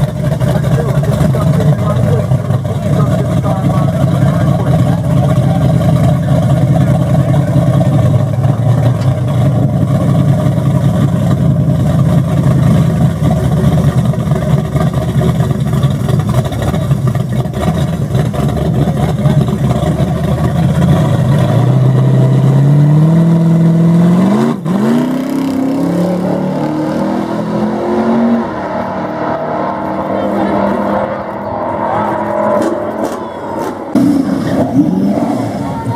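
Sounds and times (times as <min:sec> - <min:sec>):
drag car engine accelerating: 0:00.0 - 0:35.9.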